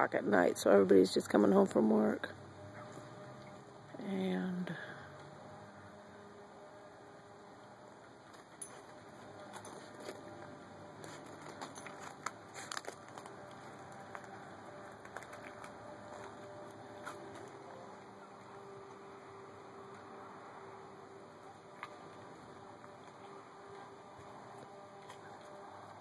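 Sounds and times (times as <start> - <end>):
distant traffic hiss: 0.0 - 26.0
faint low hum with held tones: 0.0 - 26.0.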